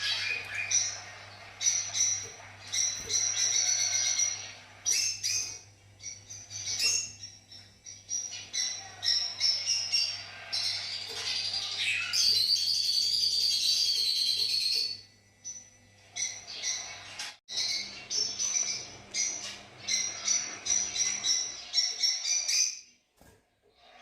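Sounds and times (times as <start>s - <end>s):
lovebirds twittering: 0.0s - 23.0s.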